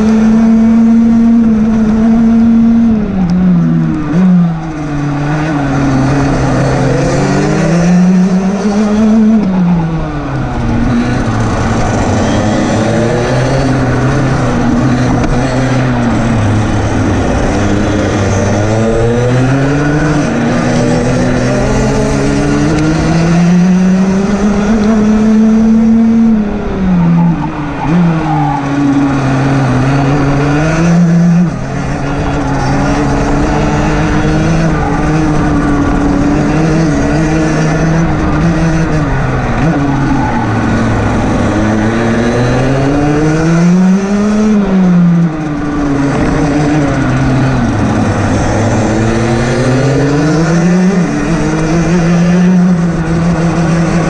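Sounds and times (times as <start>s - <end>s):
kart engine racing: 0.0s - 54.0s.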